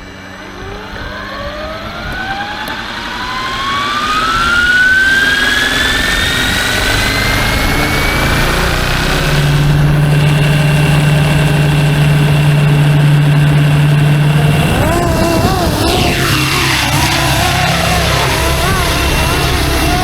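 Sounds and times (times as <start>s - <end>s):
electric motor whine rising: 0.0s - 20.0s
low rotor hum: 0.0s - 20.0s.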